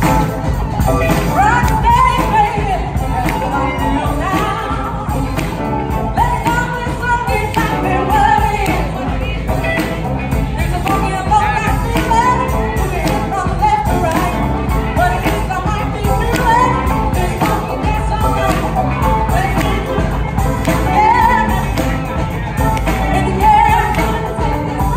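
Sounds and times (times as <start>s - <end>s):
drums: 0.0s - 24.9s
guitar: 0.0s - 24.9s
keyboards: 0.0s - 24.9s
women singing: 0.0s - 24.9s.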